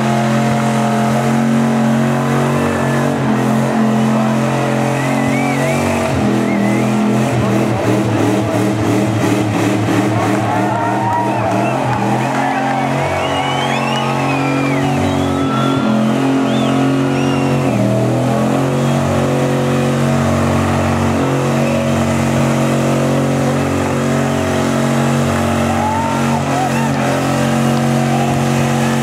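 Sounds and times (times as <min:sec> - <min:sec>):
car engine revving high: 0:00.0 - 0:29.0.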